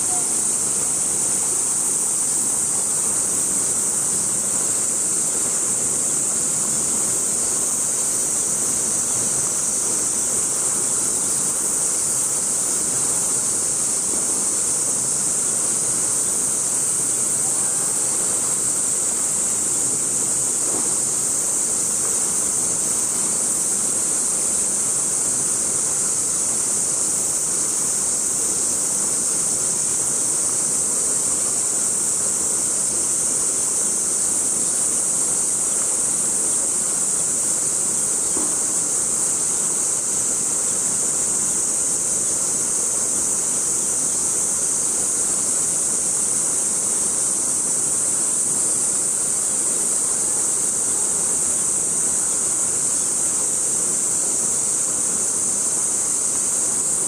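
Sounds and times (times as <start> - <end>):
cicadas droning: 0.0 - 57.0.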